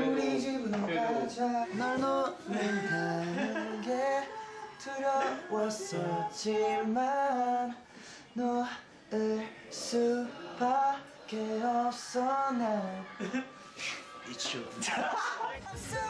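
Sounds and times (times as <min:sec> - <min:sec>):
man singing unaccompanied: 0:00.0 - 0:13.1.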